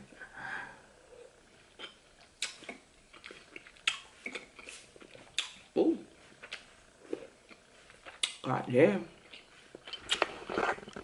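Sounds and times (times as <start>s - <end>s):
person chewing food: 1.1s - 8.5s, 9.2s - 11.0s.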